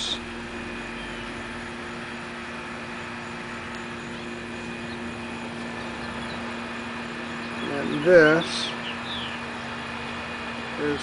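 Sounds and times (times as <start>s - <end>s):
motor humming with high whine: 0.0s - 11.0s.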